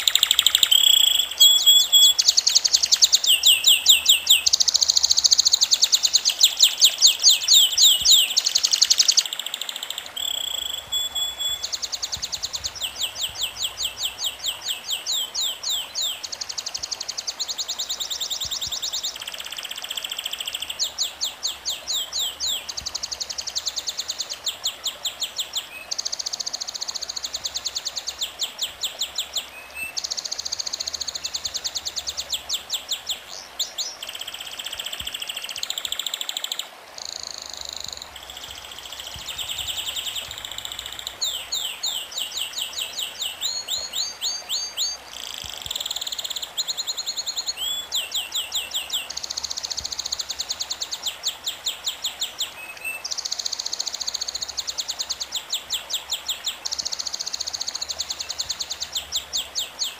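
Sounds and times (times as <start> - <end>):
songbirds trilling: 0.0 - 59.9.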